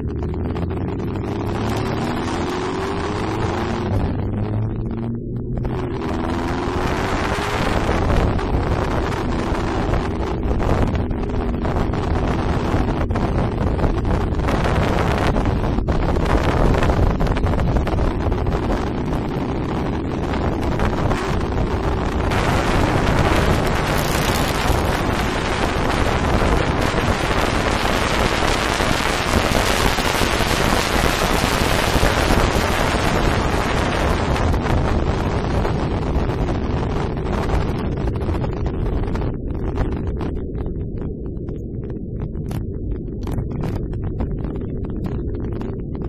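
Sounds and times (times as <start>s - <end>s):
wind rushing over microphone: 0.0s - 46.0s.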